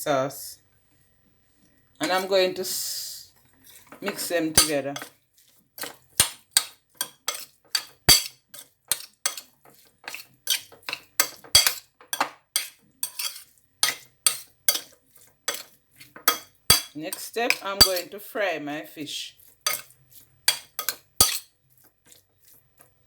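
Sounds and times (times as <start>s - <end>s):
utensil scraping a bowl: 2.0s - 18.2s, 19.2s - 23.0s.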